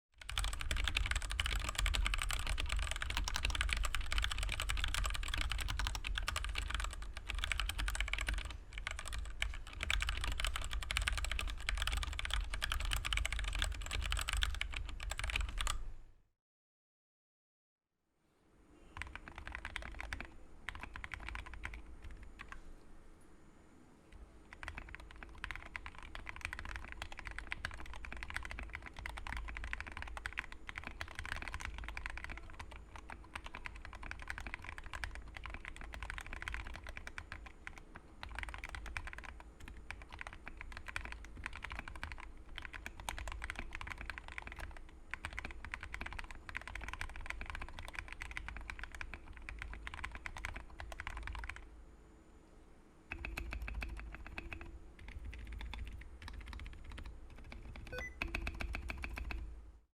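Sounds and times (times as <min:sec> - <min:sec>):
mechanical keyboard typing: 0:00.2 - 0:15.9, 0:19.0 - 0:22.6, 0:24.5 - 0:51.7, 0:53.1 - 0:59.5.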